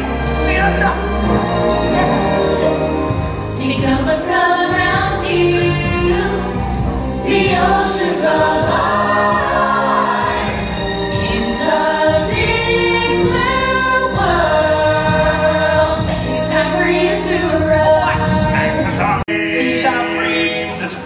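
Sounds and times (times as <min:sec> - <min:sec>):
instrumental backing: 0:00.0 - 0:21.0
voices singing together: 0:01.3 - 0:21.0.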